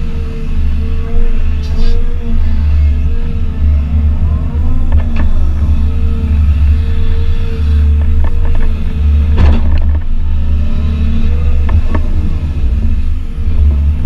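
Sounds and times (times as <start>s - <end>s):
excavator diesel engine whining: 0.0s - 14.0s.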